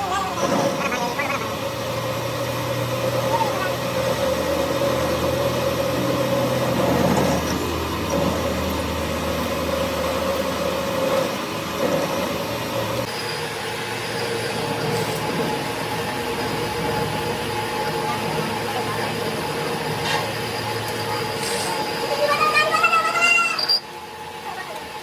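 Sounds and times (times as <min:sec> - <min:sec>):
lathe whine: 0:00.2 - 0:22.2.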